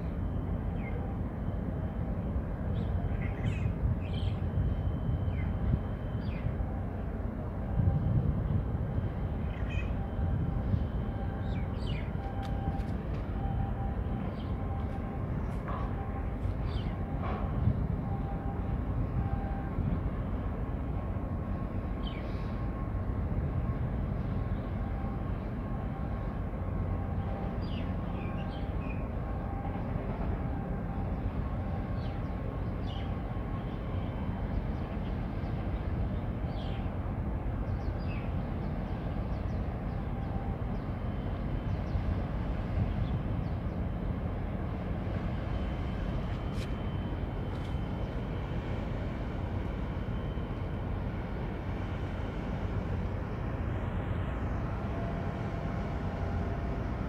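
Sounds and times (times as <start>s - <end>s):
ship engine low rumble: 0.0s - 57.0s.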